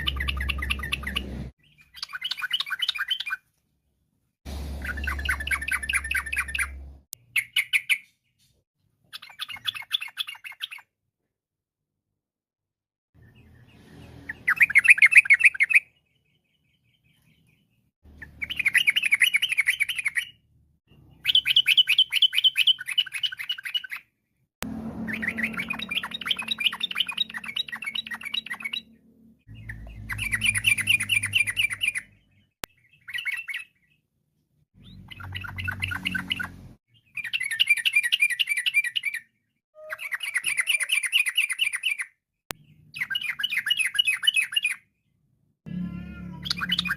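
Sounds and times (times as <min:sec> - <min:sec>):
bird chattering song: 0:00.0 - 0:03.4, 0:04.8 - 0:08.5, 0:09.1 - 0:10.9, 0:13.2 - 0:20.4, 0:21.0 - 0:24.1, 0:25.0 - 0:34.0, 0:34.8 - 0:44.9, 0:46.3 - 0:46.9.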